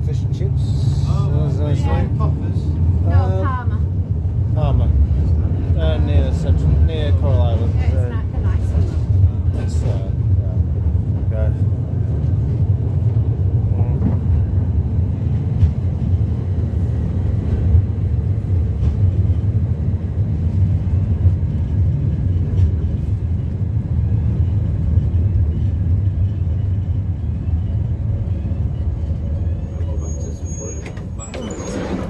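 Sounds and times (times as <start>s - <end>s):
tram rumbling along track: 0.0s - 32.0s.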